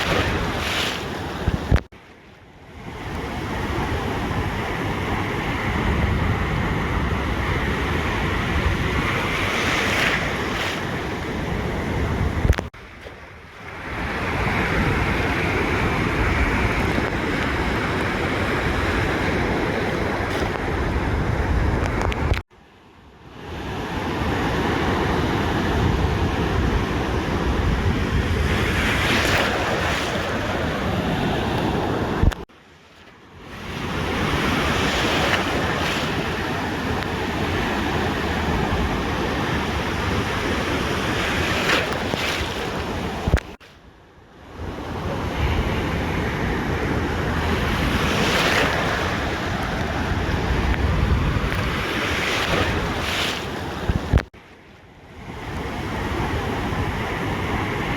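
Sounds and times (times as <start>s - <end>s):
wind rumbling on microphone: 0.0s - 1.9s, 2.7s - 22.4s, 23.5s - 32.5s, 33.4s - 57.9s
ocean surf breaking on beach: 0.0s - 57.9s.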